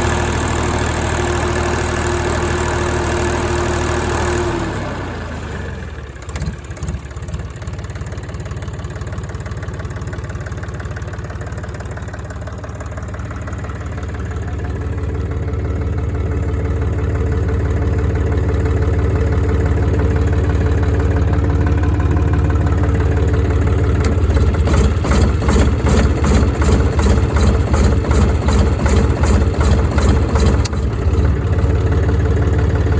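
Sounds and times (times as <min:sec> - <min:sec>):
diesel generator engine running: 0:00.0 - 0:32.9.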